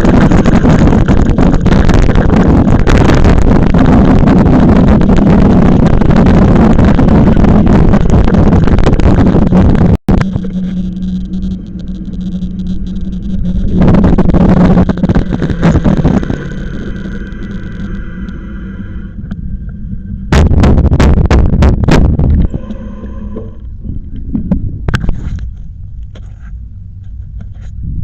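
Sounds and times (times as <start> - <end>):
low hum: 0.0 - 28.0
wind on microphone: 0.0 - 28.0.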